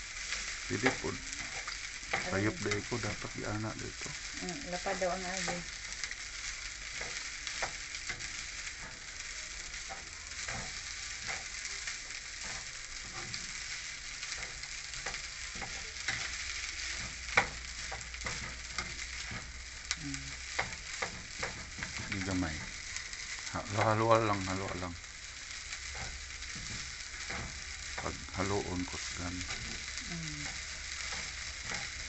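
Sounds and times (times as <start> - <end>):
rice sizzling in a frying pan: 0.0 - 32.0
spatula scraping and tapping pan: 0.2 - 3.3, 4.0 - 32.0.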